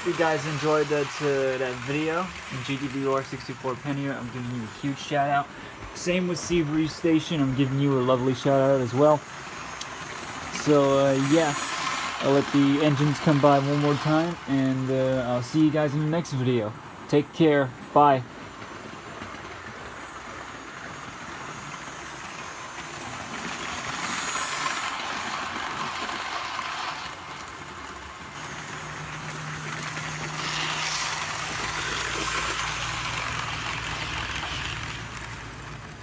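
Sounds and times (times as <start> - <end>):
model train rumbling past: 0.0 - 36.0.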